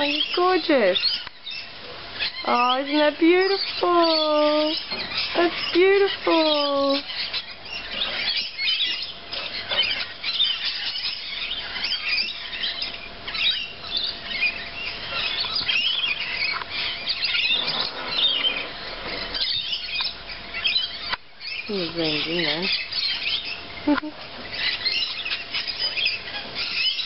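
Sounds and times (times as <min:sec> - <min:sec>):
birds chirping and squawking: 0:00.0 - 0:27.0.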